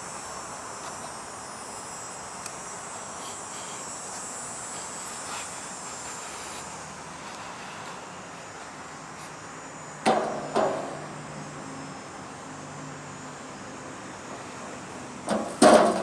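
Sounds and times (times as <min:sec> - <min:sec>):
cicadas buzzing: 0:00.0 - 0:16.0.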